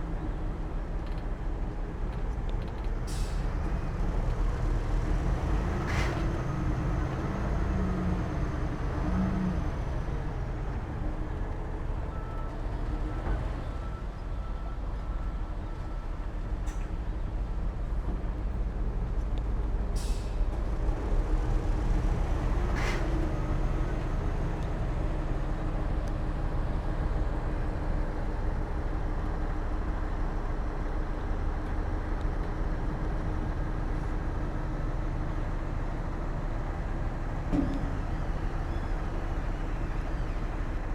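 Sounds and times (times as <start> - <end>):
diesel engine rumbling: 0.0 - 40.9.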